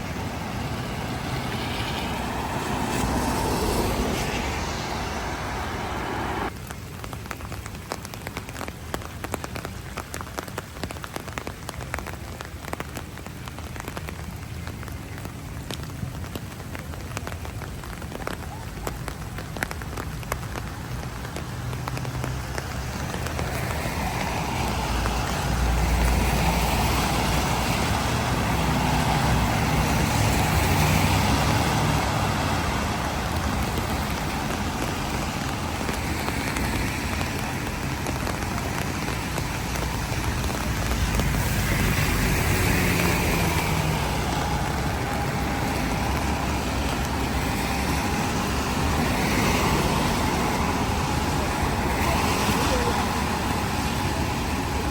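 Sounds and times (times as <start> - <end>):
steady rain: 0.0 - 54.9
vehicles passing on wet road: 0.0 - 54.9.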